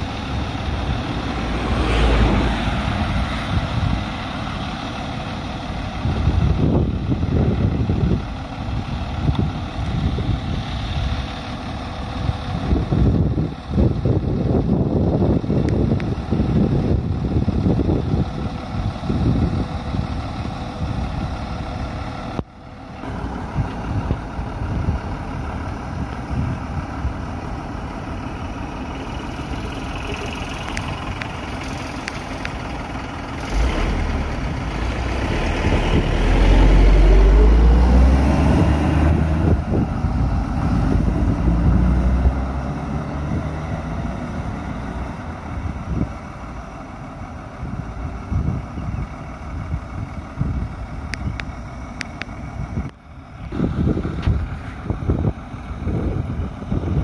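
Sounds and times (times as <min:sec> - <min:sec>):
heavy engine low rumble: 0:00.0 - 0:57.0
vehicle engines idling: 0:00.0 - 0:57.0.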